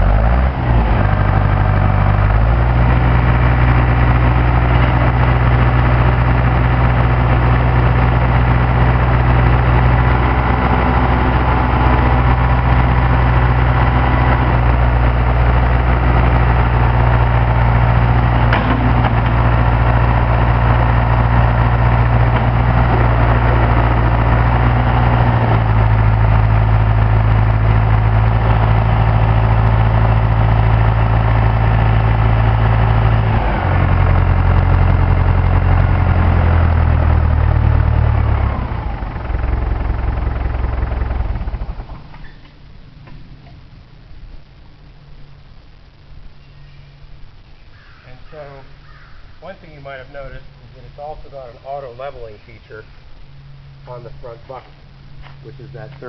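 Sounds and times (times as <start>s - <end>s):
backhoe diesel engine running: 0.0s - 46.0s, 48.3s - 56.0s.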